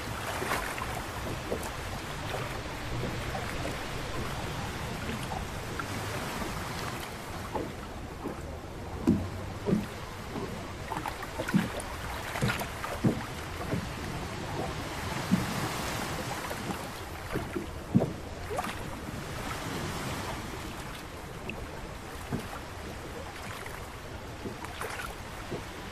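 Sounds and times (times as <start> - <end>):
knocks and thumps on boat: 0.0 - 25.9
sea noise: 0.0 - 25.9
wind: 0.0 - 25.9.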